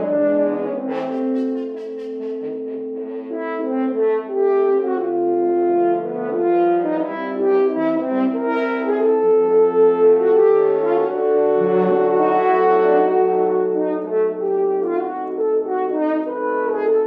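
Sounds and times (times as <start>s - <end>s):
brass instruments playing slow piece: 0.0s - 17.0s.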